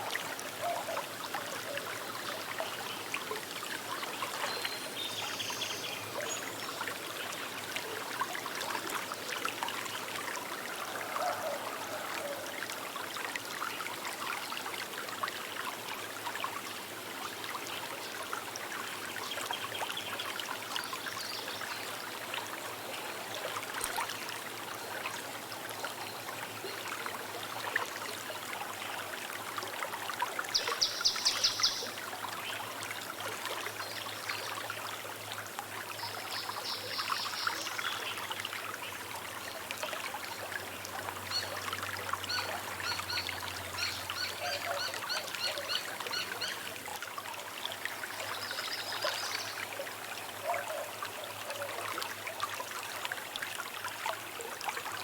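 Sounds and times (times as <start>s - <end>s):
small river flowing: 0.0s - 55.0s.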